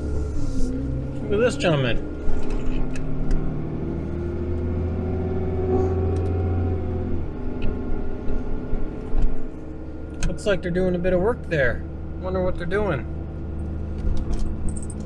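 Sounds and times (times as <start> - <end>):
engine hum: 0.0 - 15.0
road noise: 0.0 - 15.0.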